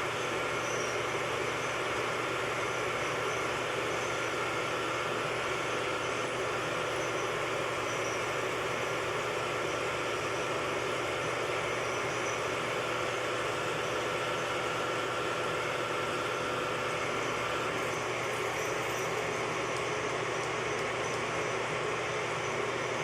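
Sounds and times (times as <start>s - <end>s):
metal lathe humming: 0.0s - 23.0s.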